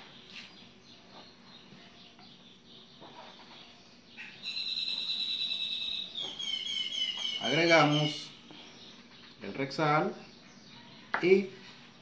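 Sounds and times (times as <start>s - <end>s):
bird singing rapid trill: 0.0s - 11.9s.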